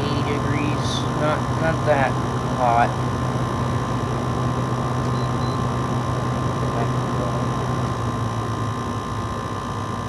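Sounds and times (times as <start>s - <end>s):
air conditioner running: 0.0s - 10.0s.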